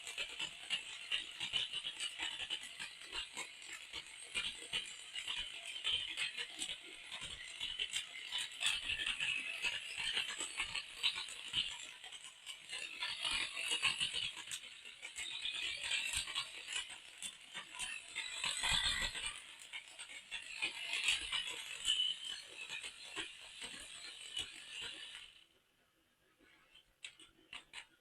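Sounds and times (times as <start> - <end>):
plastic toy parts clicking and rattling: 0.0 - 25.4, 27.0 - 28.0.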